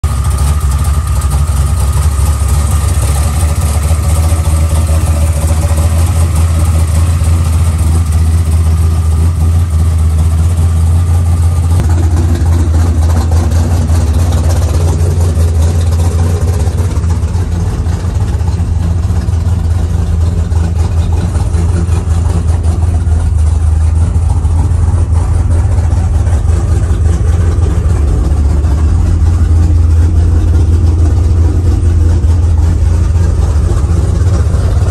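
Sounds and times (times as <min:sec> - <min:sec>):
truck engine idling loudly: 0:00.0 - 0:34.9.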